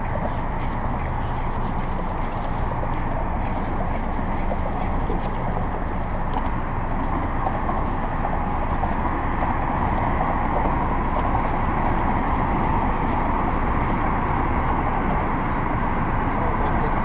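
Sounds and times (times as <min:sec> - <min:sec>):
water rushing around boat: 0:00.0 - 0:17.0.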